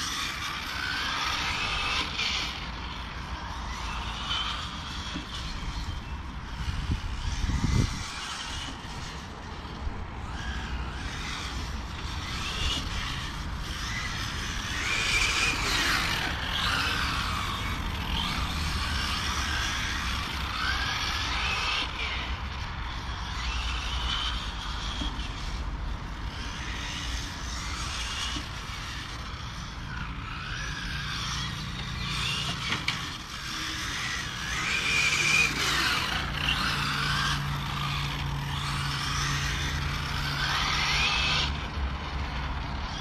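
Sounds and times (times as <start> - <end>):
rc car motors whining: 0.0 - 43.0.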